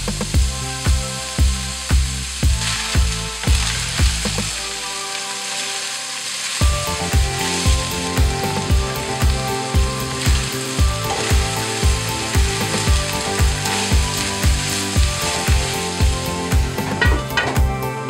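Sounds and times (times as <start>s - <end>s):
meat sizzling in a frying pan: 0.0s - 17.9s
background music with steady beat: 0.0s - 18.0s.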